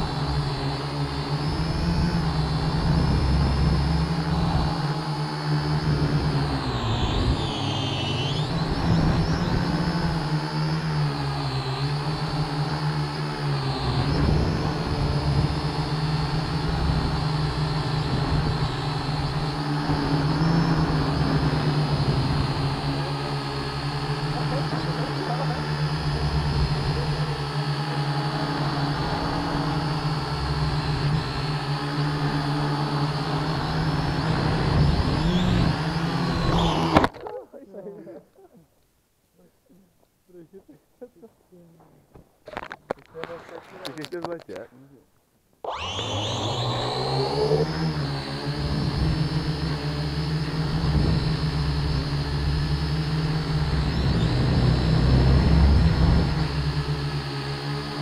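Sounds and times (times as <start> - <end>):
drone propellers buzzing: 0.0 - 37.4, 45.6 - 58.0.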